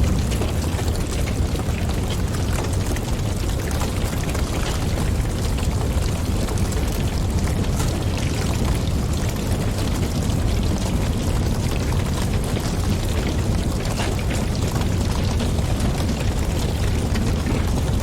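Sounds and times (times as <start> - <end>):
fire crackling: 0.0 - 18.0
low rumble of flames: 0.0 - 18.0.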